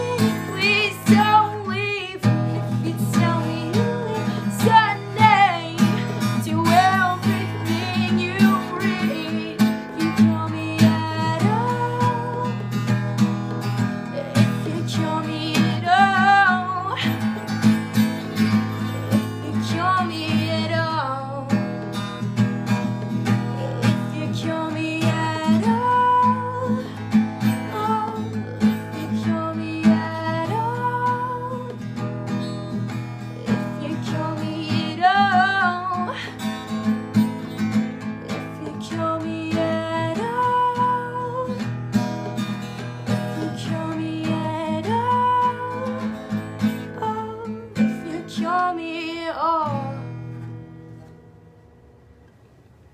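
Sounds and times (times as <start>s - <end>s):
woman singing: 0.0s - 22.1s, 22.8s - 41.8s, 43.1s - 50.3s
strummed acoustic guitar: 0.0s - 52.8s.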